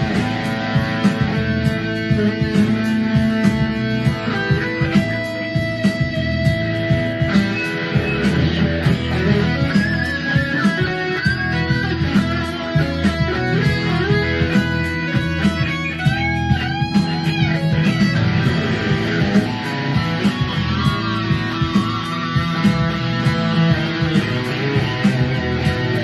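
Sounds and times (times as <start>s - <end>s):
backing track with steady beat: 0.0s - 26.0s
electric guitar lead melody: 0.0s - 26.0s.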